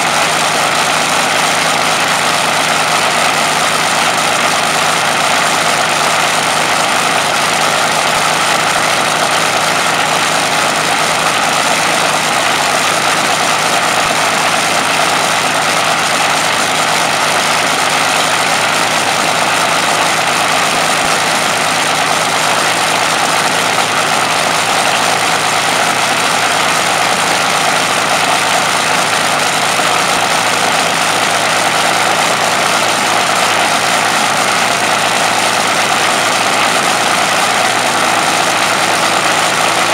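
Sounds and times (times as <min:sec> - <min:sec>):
aero engine running loudly: 0:00.0 - 0:39.9.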